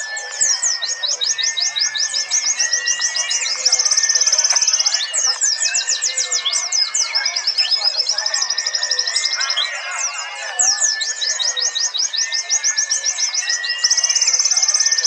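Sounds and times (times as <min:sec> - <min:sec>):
bird trill: 0:00.0 - 0:15.0
birds chirping in chorus: 0:00.0 - 0:15.0
whistled bird notes: 0:00.0 - 0:15.0.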